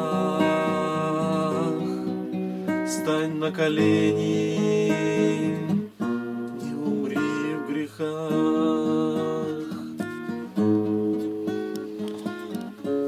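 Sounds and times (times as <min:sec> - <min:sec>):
classical guitar playing: 0:00.0 - 0:13.0.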